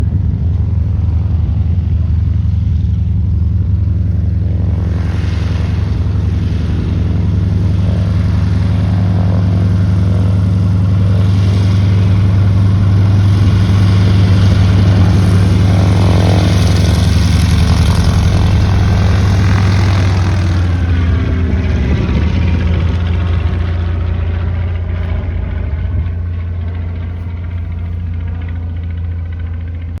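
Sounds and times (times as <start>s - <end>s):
biplane engine and propeller: 0.0s - 30.0s.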